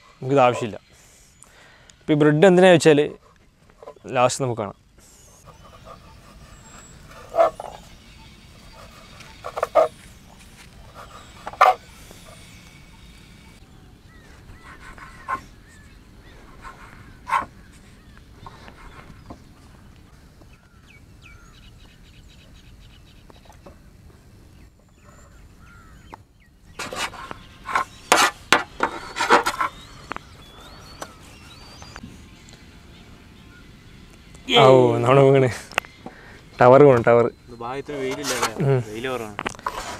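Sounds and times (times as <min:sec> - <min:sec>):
birds chirping faintly: 0:00.0 - 0:39.9.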